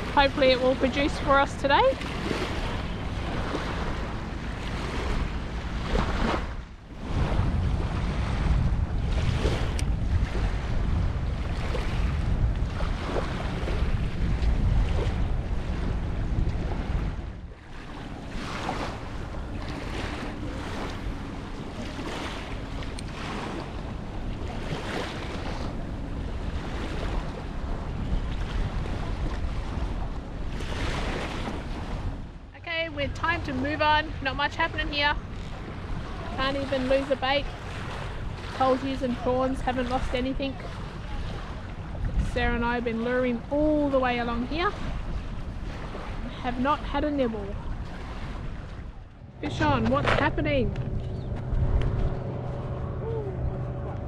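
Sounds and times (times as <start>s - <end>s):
waves washing on shore: 0.0s - 54.0s
wind buffeting microphone: 0.0s - 54.0s.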